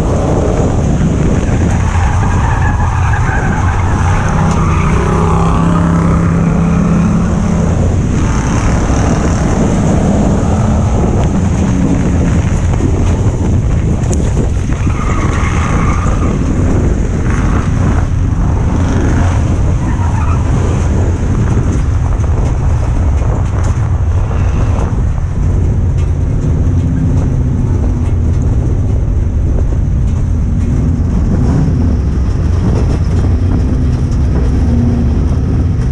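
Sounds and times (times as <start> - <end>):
racing engine droning: 0.0 - 35.9
tyre and dirt noise: 0.0 - 35.9.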